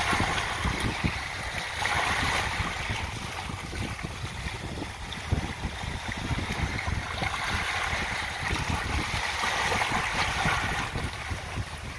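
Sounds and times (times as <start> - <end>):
waves washing over pebbly shore: 0.0 - 11.9.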